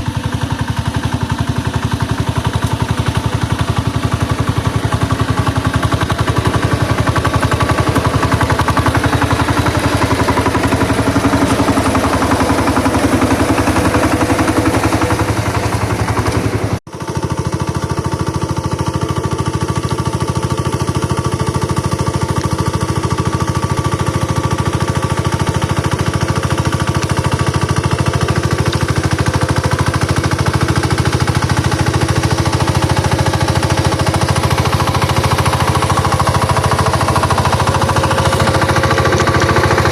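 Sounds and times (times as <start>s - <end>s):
engine putt-putting under load: 0.0s - 39.9s.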